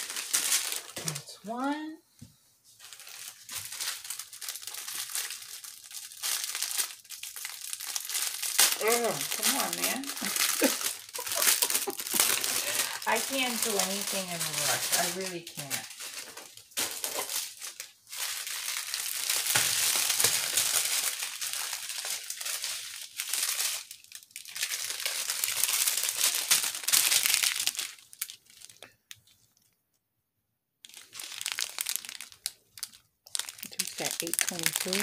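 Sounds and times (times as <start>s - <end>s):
plastic bags crinkling: 0.0s - 1.8s, 2.8s - 29.7s, 30.8s - 35.0s.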